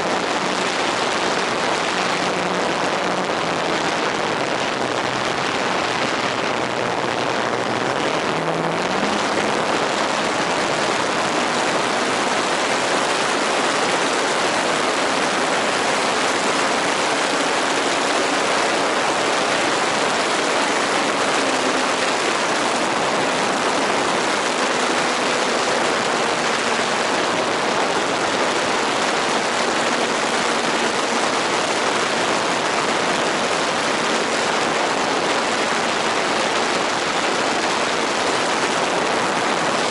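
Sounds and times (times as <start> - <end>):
model airplane motor hum: 0.0 - 32.6.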